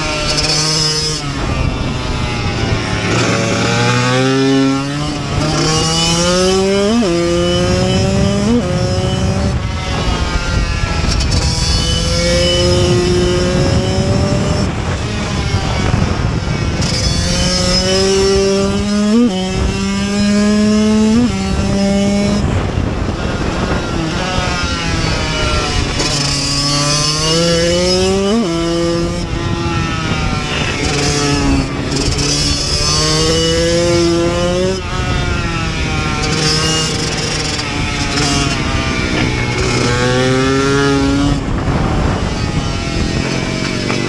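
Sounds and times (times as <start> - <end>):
motorcycle engine revving: 0.0 - 44.0
wind on microphone: 0.0 - 44.0.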